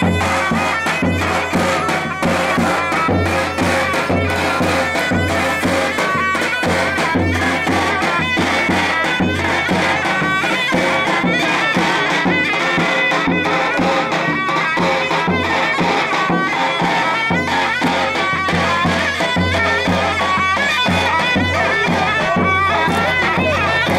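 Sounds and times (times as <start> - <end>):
heavy drum beats: 0.0 - 23.9
shrill reed pipe melody: 0.0 - 23.9.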